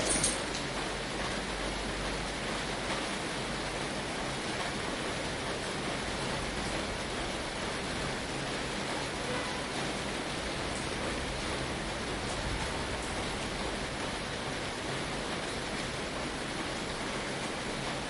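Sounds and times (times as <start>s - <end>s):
rain on a tin roof: 0.0s - 18.0s.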